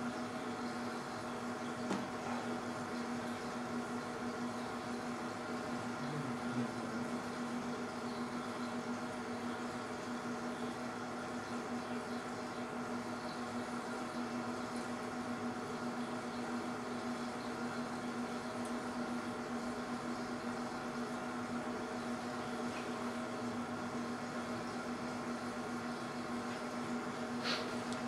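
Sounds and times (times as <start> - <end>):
electrical equipment hum: 0.0 - 28.0
fan whirring: 0.0 - 28.0.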